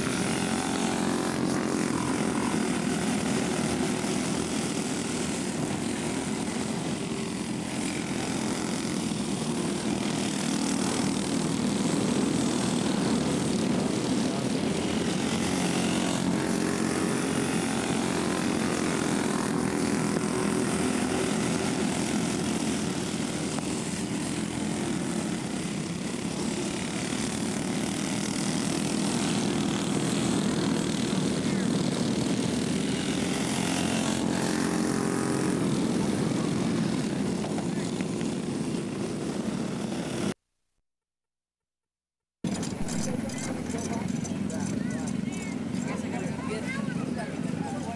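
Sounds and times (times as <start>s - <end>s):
racing kart engines droning: 0.0s - 40.4s, 42.5s - 47.9s.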